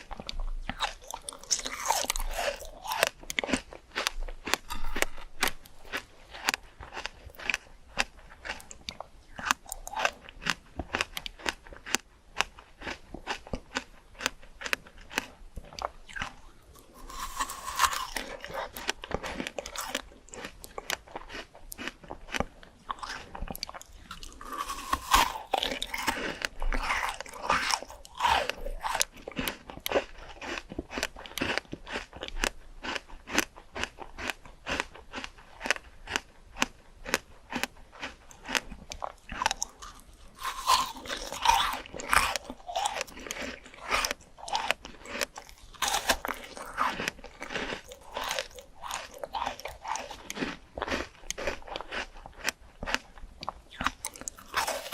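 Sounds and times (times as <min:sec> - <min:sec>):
person chewing crunchy fruit: 0:00.0 - 0:54.9.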